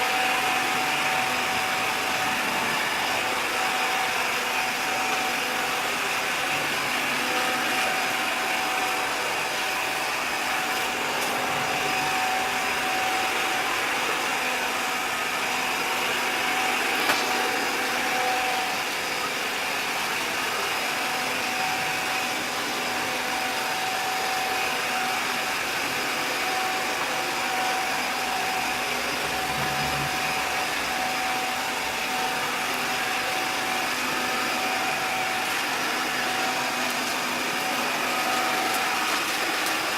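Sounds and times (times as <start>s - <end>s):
robot vacuum cleaner humming: 0.0s - 39.9s.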